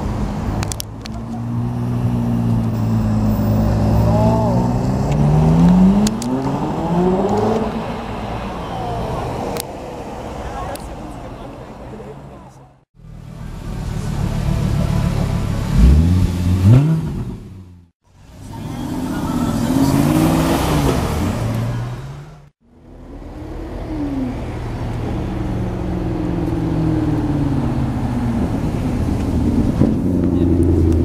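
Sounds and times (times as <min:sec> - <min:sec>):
car engine revving: 0:00.0 - 0:10.8, 0:13.0 - 0:22.5, 0:23.2 - 0:31.0.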